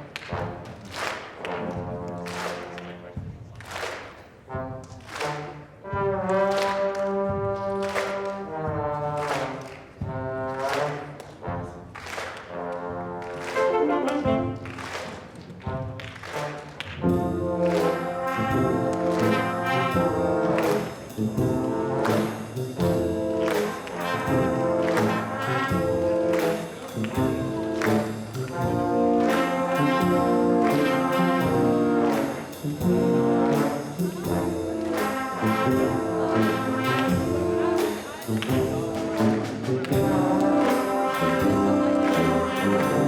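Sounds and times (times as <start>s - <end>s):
brass instruments playing lively music: 0.0s - 43.0s.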